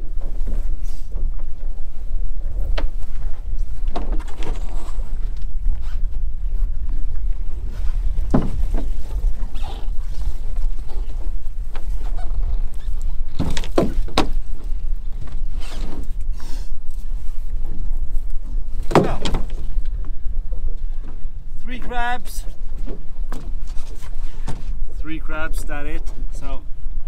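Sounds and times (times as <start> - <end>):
choppy water around boat: 0.0 - 27.0
wind rumble: 0.0 - 27.0.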